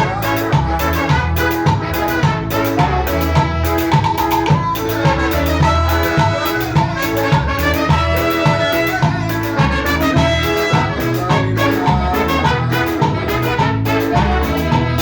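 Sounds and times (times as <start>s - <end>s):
dance band playing live: 0.0s - 15.0s.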